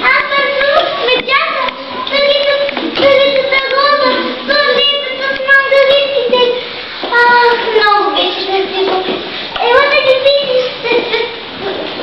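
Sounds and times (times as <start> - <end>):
child singing: 0.0 - 10.8.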